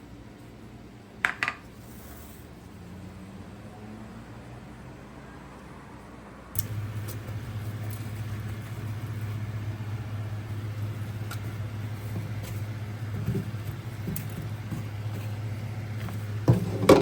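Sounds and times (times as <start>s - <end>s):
steady low motor hum: 0.0s - 5.4s, 6.0s - 17.0s.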